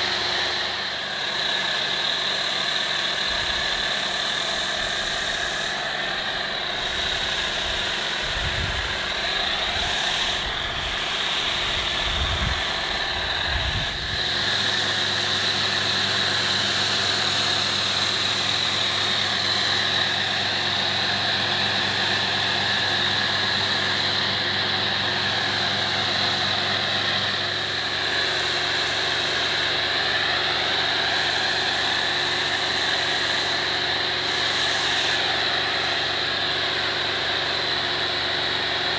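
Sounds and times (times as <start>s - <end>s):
foam cannon spraying hiss: 0.0s - 38.9s
pressure washer motor humming: 0.0s - 38.9s.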